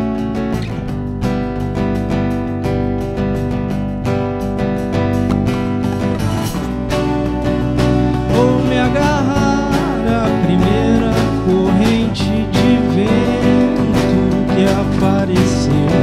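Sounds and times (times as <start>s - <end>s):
rock band playing live: 0.0s - 16.0s
strummed guitars: 0.0s - 16.0s.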